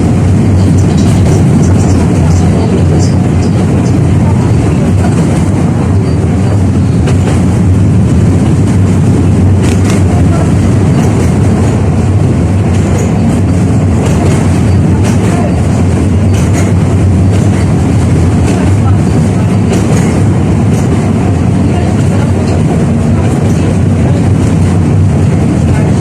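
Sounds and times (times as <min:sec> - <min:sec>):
tram wheels rumbling: 0:00.0 - 0:26.0.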